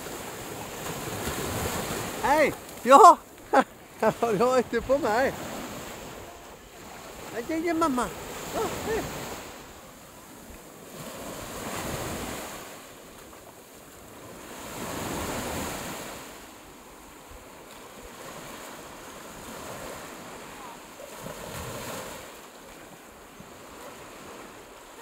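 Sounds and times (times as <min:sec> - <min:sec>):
small waves breaking on shore: 0:00.0 - 0:25.0.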